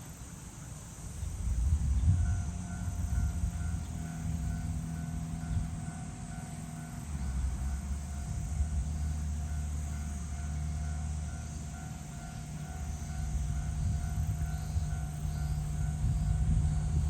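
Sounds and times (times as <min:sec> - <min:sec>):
low rumble: 0:01.4 - 0:17.0
level crossing alarm ringing: 0:02.1 - 0:17.0.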